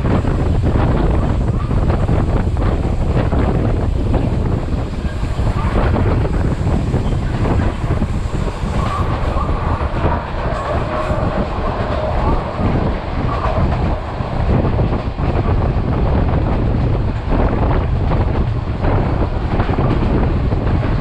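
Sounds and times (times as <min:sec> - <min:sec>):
train rumbling with wheel clatter: 0:00.0 - 0:21.0.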